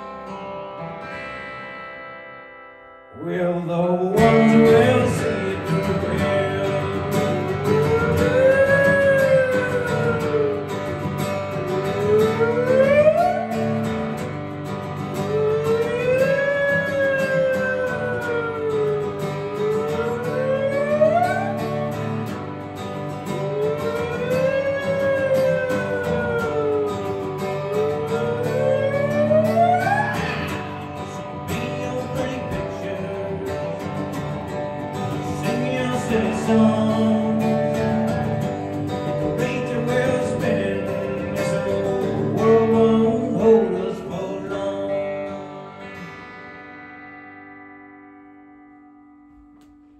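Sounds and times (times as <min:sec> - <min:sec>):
acoustic guitar chords: 0:00.0 - 0:49.9.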